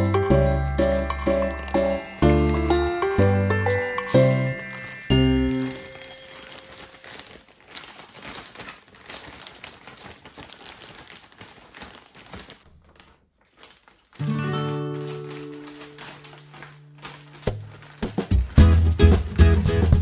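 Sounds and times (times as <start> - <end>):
plastic bag crinkling: 0.0 - 19.4.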